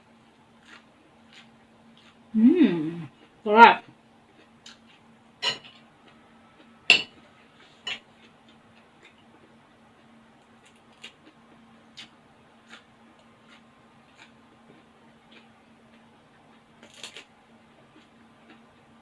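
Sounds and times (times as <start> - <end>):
low steady hum: 0.0 - 19.0
faint eating sounds: 0.1 - 19.0.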